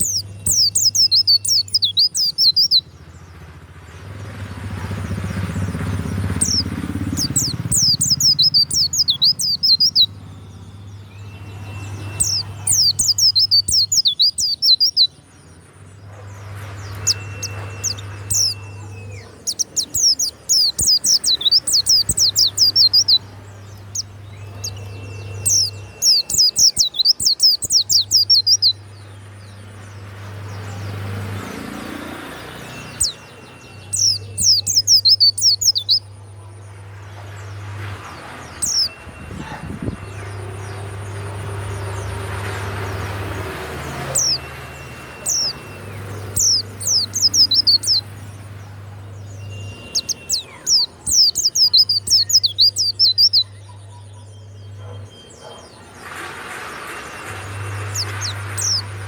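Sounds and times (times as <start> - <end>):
bird fast high chirping: 0.0 - 2.9, 5.1 - 15.3, 16.2 - 31.0, 31.8 - 36.2, 38.5 - 42.2, 42.9 - 55.8, 57.4 - 59.0.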